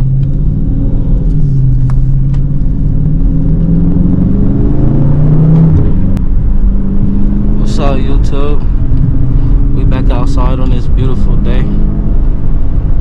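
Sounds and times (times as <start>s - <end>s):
car engine running loud: 0.0s - 13.0s.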